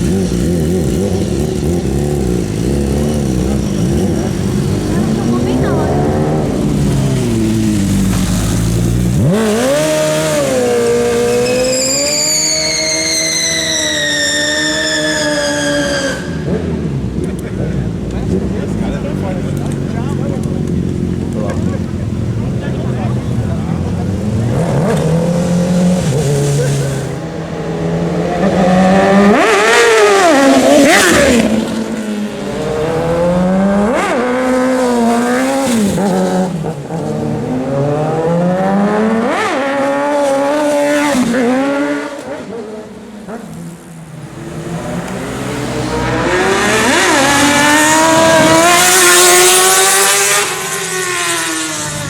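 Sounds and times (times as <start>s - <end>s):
motorcycle engines revving past: 0.0s - 52.0s.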